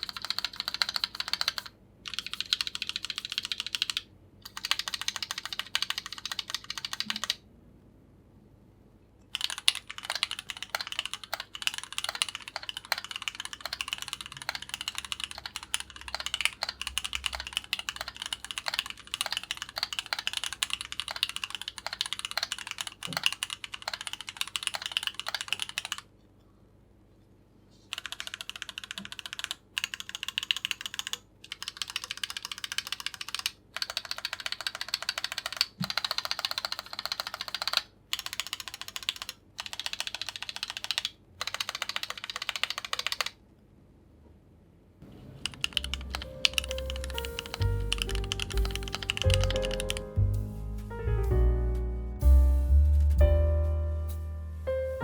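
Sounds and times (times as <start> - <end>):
mechanical keyboard typing: 0.0 - 7.4, 9.3 - 26.1, 27.9 - 43.4, 45.4 - 50.9.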